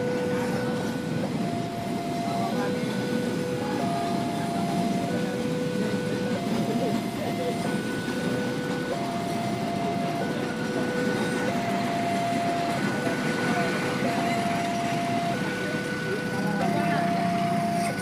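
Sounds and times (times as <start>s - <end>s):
level crossing alarm two-tone: 0.0s - 18.0s
train coaches rumbling on rails: 0.0s - 18.0s.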